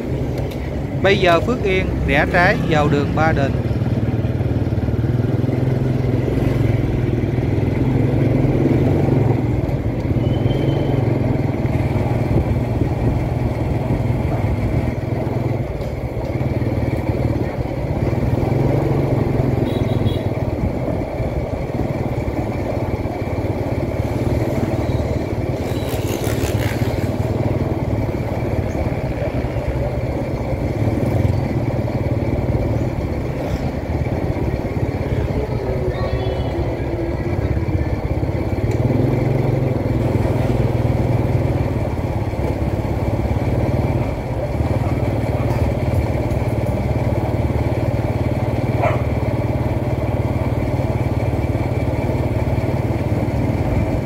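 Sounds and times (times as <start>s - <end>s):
passing traffic: 0.0s - 54.0s
vehicle engine drone: 0.0s - 54.0s.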